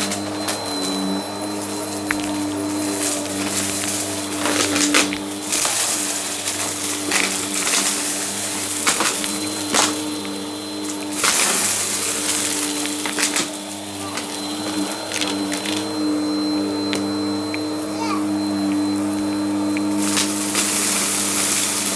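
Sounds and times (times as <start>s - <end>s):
debris clicking in vacuum: 0.0s - 16.1s, 18.4s - 21.9s
vacuum cleaner motor hum: 0.0s - 21.9s.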